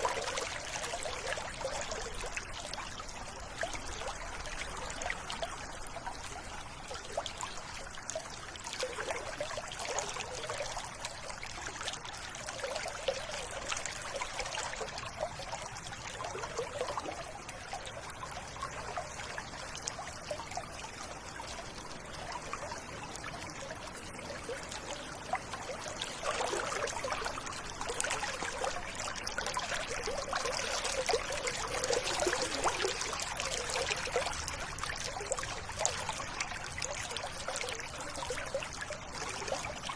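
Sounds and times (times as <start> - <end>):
river water gurgling over stones: 0.0 - 39.9.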